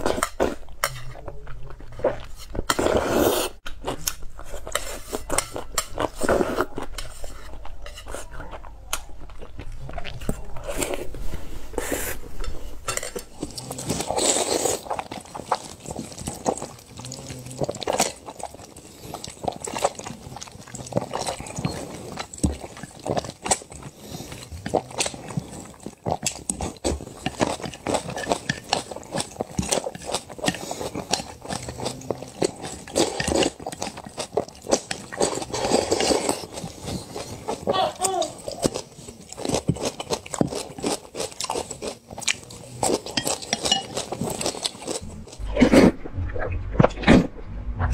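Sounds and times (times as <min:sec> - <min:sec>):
slurping and chewing noodles: 0:00.0 - 0:46.1.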